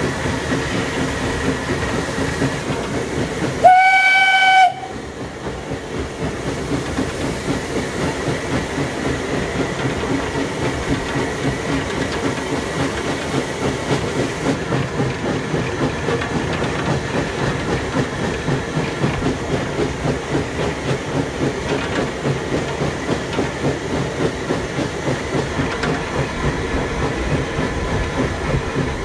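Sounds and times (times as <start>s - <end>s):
steam engine pulsing: 0.0s - 29.0s
wheels clattering on rails: 0.0s - 29.0s.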